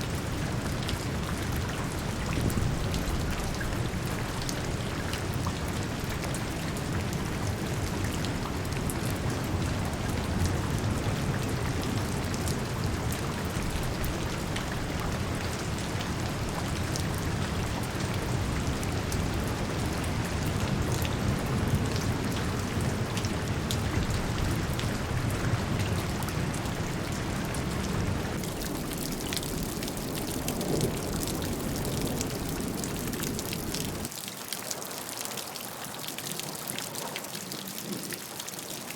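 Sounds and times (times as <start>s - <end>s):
low rain rumble: 0.0s - 38.9s
raindrops tapping on surfaces: 0.0s - 38.9s.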